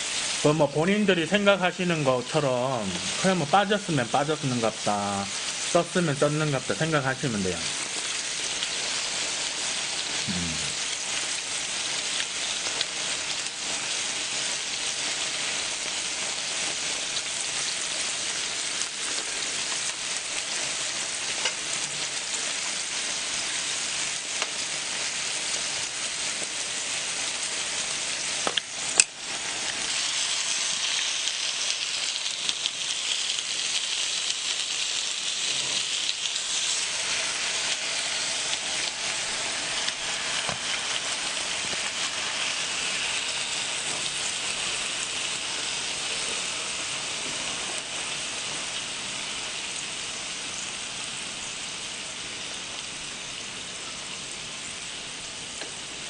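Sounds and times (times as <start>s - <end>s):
meat sizzling on a griddle: 0.0s - 56.0s.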